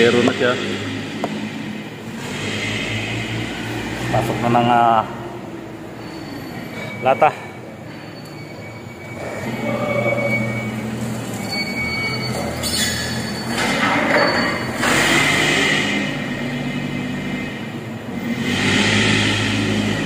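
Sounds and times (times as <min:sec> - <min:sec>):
forklift working: 0:00.0 - 0:20.0
machine hum with squealing: 0:00.0 - 0:20.0.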